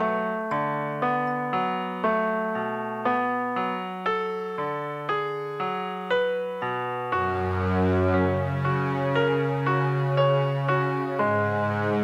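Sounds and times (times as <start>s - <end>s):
electric piano chords: 0.0s - 12.0s.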